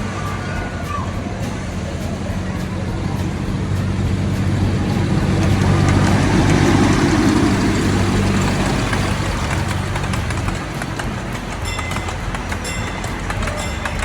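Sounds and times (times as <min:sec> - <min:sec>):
rushing noise: 0:00.0 - 0:14.0
train engine humming: 0:00.0 - 0:14.0.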